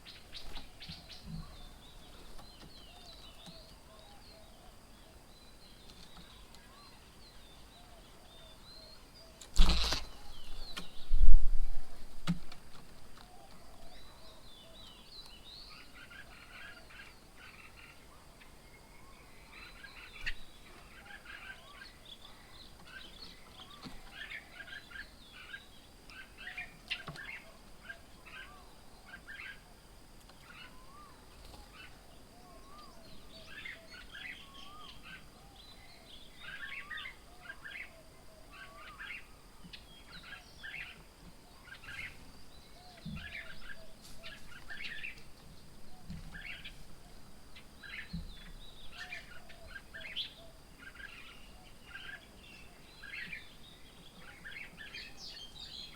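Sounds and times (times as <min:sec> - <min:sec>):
birds chirping and twittering: 0:00.0 - 0:55.9.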